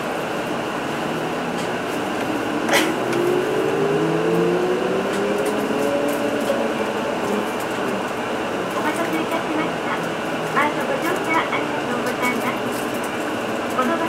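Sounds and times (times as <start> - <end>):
bus drive whine rising: 0.0 - 14.0
engine and road noise: 0.0 - 14.0.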